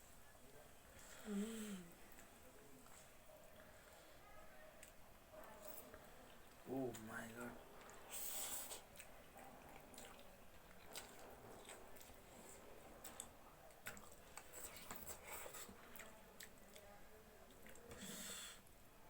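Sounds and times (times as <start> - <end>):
people chewing noodles: 0.8 - 18.9.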